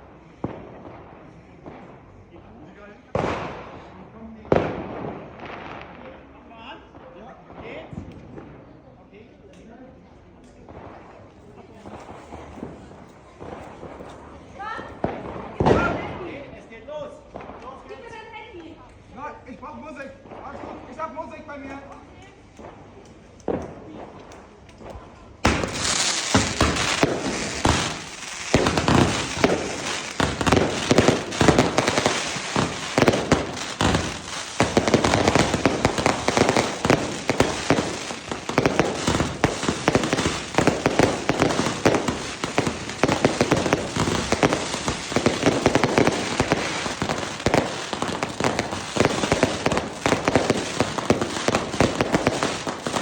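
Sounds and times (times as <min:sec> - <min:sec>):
firecrackers banging and crackling: 0:00.0 - 0:08.8, 0:10.6 - 0:16.4, 0:17.3 - 0:17.8, 0:22.5 - 0:53.0.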